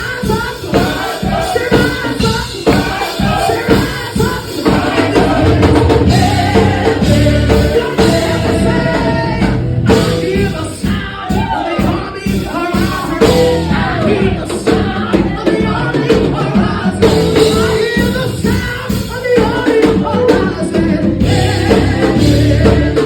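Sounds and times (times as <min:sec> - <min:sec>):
voices singing: 0:00.0 - 0:23.0
worship band playing: 0:00.0 - 0:23.0.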